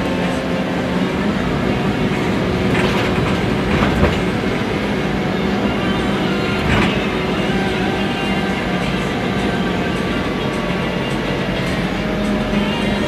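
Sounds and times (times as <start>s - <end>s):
bus body rattling and clunking: 0.0s - 13.0s
bus engine drone: 0.0s - 13.0s
rolling wheels hum: 0.0s - 13.0s.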